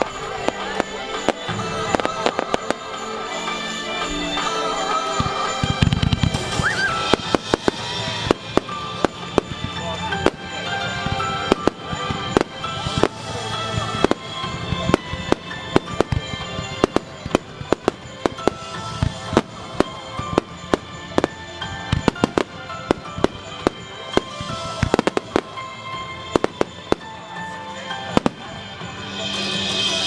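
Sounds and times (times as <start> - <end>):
fireworks bursting: 0.0 - 30.0
fireworks hissing: 0.0 - 30.0
music: 0.0 - 30.0.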